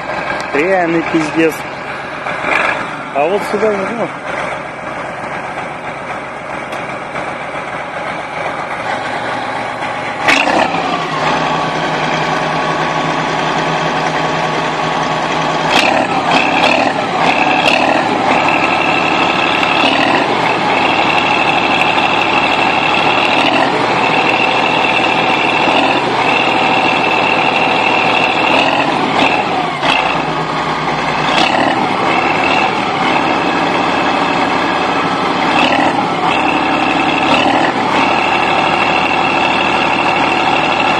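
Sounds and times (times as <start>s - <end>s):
bulldozer engine working hard: 0.0s - 40.9s.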